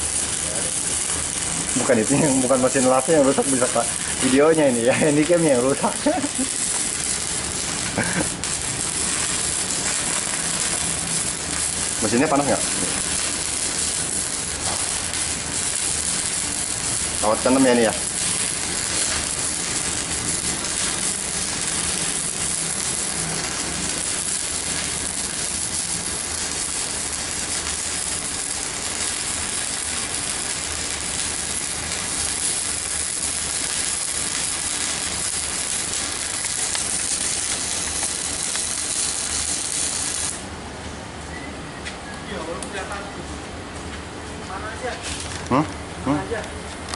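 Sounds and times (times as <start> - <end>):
welding arc crackling hiss: 0.0 - 46.9.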